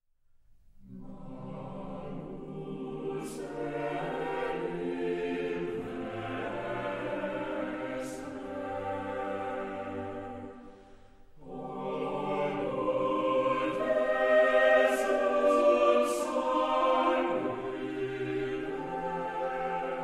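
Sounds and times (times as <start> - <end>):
choir singing sustained chords: 0.8 - 20.0.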